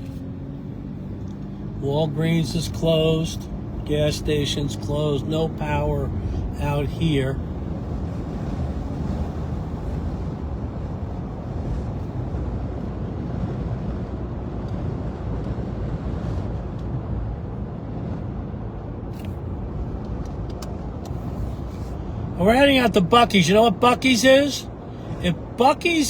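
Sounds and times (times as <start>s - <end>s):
car interior road noise: 0.0s - 26.0s.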